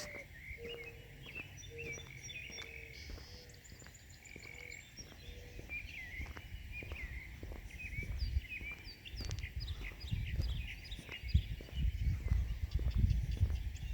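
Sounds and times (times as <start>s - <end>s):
songbirds chirping and twittering: 0.0s - 13.9s.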